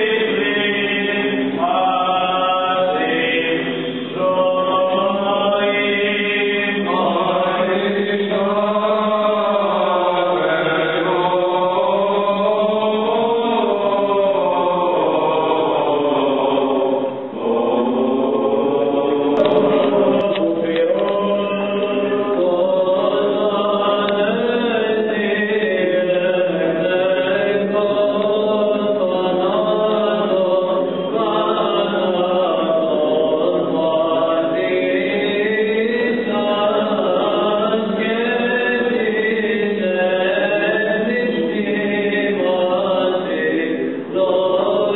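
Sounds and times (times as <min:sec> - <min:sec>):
voices singing chant: 0:00.0 - 0:44.9.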